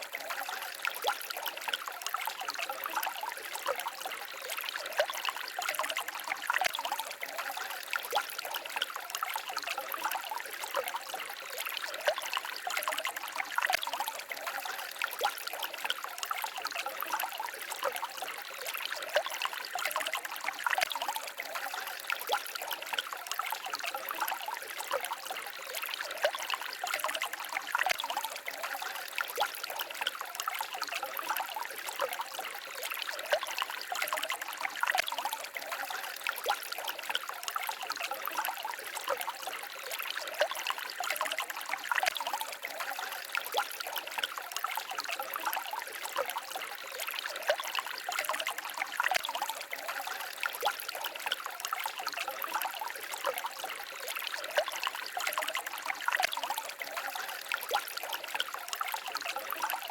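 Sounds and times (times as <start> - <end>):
stream babbling and trickling: 0.0 - 59.9.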